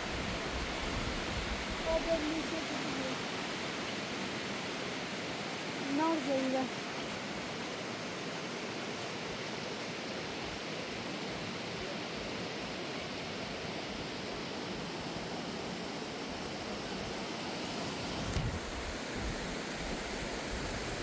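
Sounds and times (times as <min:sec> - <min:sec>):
steady rushing hiss: 0:00.0 - 0:21.0.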